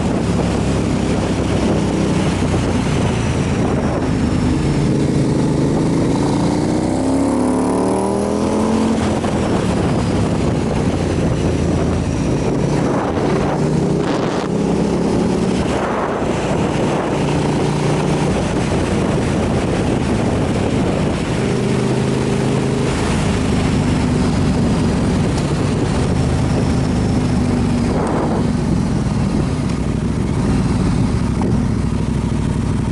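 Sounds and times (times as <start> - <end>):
motorcycle engine running: 0.0 - 32.9
wind rushing over microphone: 0.0 - 32.9.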